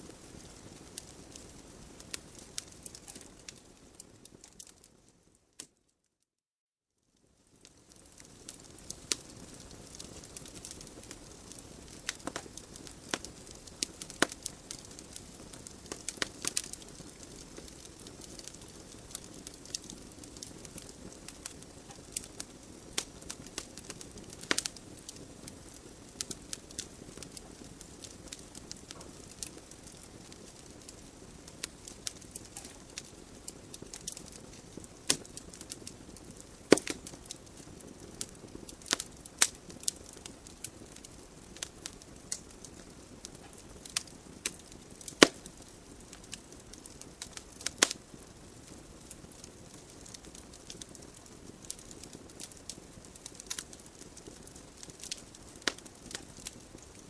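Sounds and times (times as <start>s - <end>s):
logs crackling in a fireplace: 0.0s - 5.8s, 7.2s - 57.0s.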